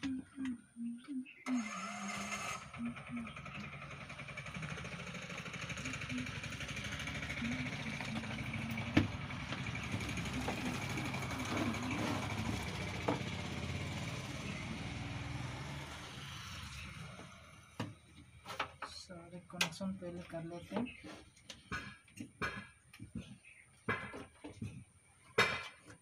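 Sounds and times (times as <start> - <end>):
rough engine-like rumble: 0.0 - 21.0.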